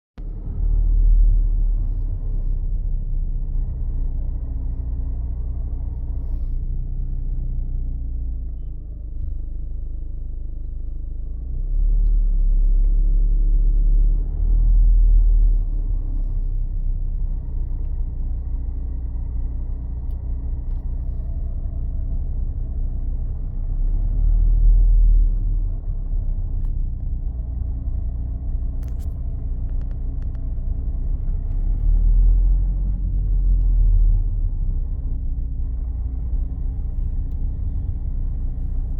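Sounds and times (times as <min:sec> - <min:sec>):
car low rumble with humming tones: 0:00.0 - 0:38.9.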